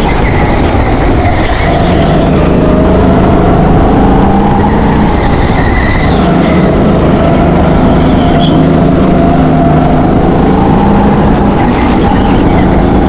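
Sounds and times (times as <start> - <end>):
go-kart engine running hard: 0.0 - 13.0.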